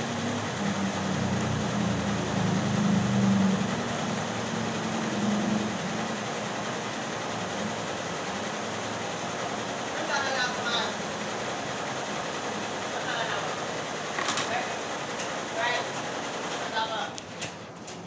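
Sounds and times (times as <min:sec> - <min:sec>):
embroidery machine whirring: 0:00.0 - 0:18.0.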